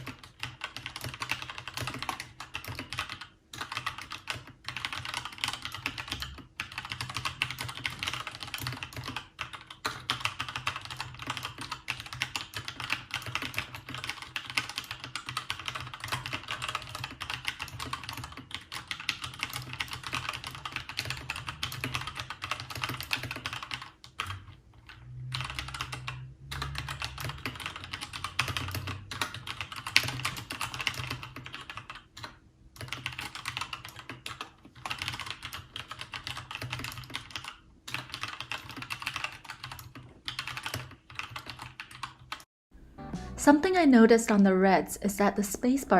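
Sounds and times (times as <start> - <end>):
mechanical keyboard typing: 0.0 - 42.5.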